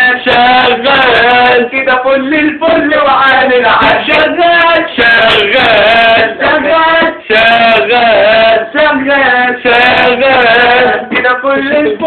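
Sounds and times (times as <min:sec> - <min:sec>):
man singing long held notes: 0:00.0 - 0:12.0.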